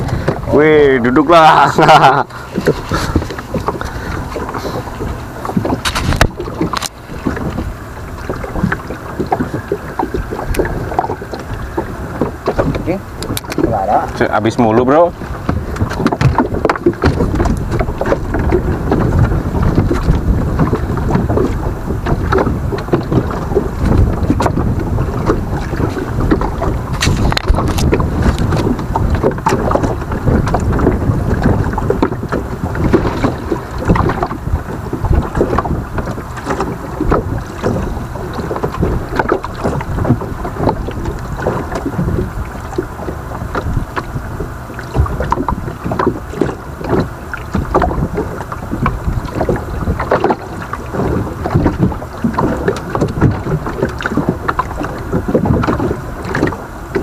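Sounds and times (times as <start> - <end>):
water lapping against boat hull: 0.0 - 57.0
wind buffeting microphone: 0.0 - 57.0.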